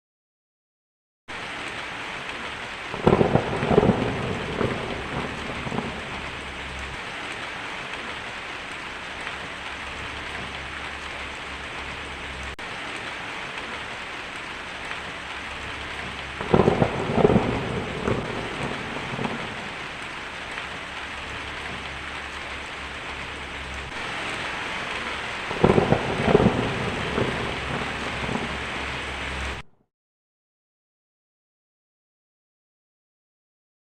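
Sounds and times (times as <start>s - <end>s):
heavy rain on a tin roof: 1.3s - 29.7s
thunder rumbling: 1.7s - 29.6s.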